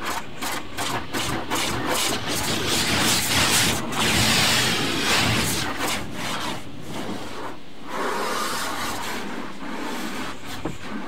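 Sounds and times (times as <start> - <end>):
car wash brushes rubbing: 0.0 - 11.0
water washing over car: 0.0 - 11.0.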